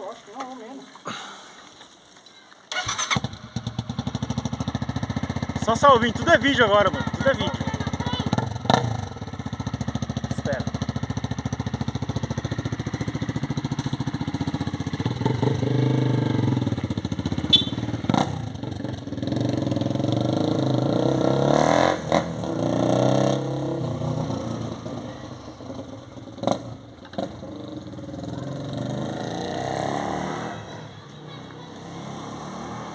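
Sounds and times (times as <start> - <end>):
motorcycle engine idling and revving: 2.7 - 32.9.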